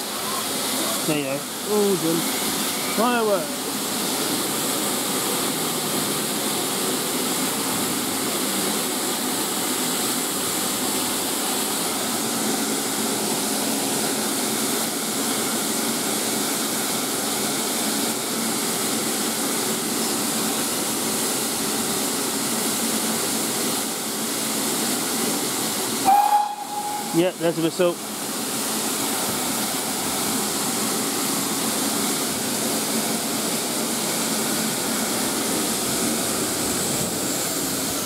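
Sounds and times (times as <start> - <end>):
loud hiss of steam locomotive: 0.0 - 38.0.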